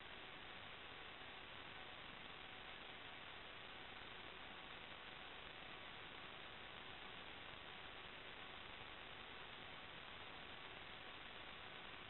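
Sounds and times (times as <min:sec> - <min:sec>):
electrical line noise hiss: 0:00.0 - 0:12.0.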